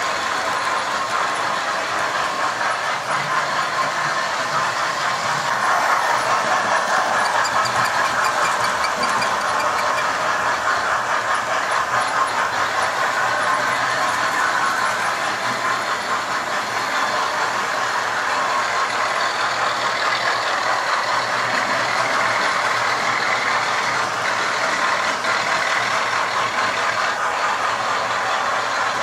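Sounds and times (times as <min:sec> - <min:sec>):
model trains whirring on track: 0:00.0 - 0:29.0.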